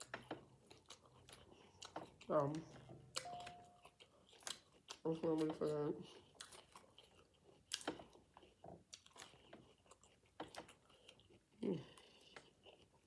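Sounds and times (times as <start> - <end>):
chewing crunchy salad: 0.0 - 13.0.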